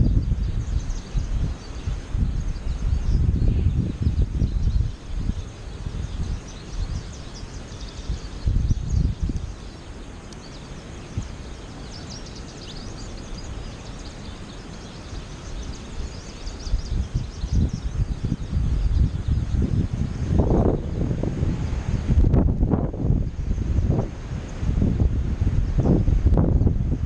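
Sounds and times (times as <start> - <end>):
goldfinches twittering: 0.0 - 22.5
wind buffeting microphone: 0.0 - 27.0.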